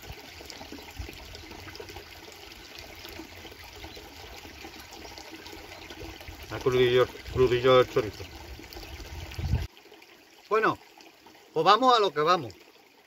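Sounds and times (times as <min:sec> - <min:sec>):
stream trickling over stones: 0:00.0 - 0:13.0.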